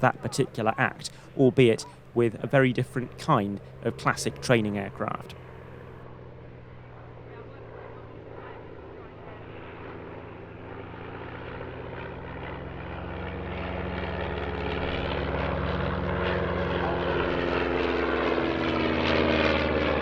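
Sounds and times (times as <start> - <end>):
light aircraft propeller engine drone: 0.0 - 20.0.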